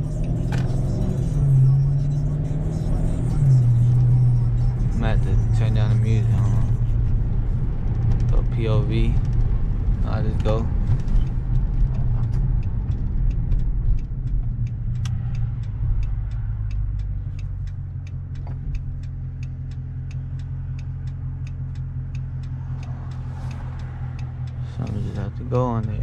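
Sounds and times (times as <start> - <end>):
car engine rumbling: 0.0 - 26.0
turn signal ticking: 0.0 - 26.0.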